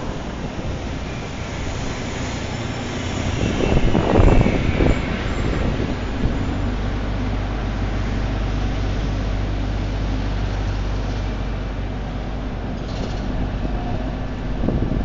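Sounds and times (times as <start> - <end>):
bus diesel engine: 0.0 - 15.0
street traffic rumble: 0.0 - 15.0.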